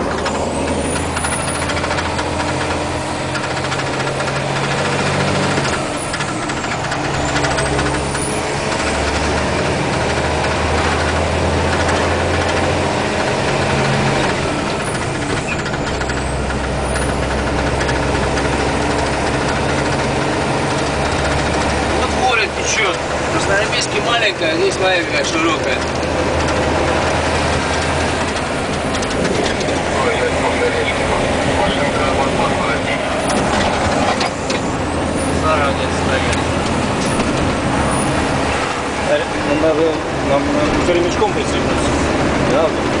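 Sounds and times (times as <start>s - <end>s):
road noise: 0.0s - 43.0s
truck diesel engine humming: 0.0s - 43.0s.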